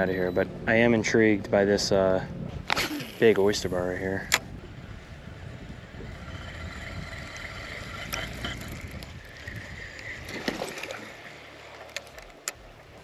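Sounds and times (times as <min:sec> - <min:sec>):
boat low rumble and hiss: 0:00.0 - 0:13.0.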